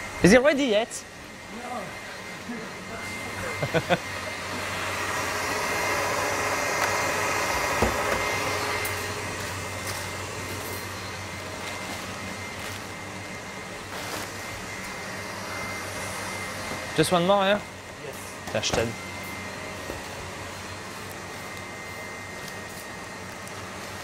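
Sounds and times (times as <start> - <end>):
stand mixer motor whirring: 1.1 - 24.0.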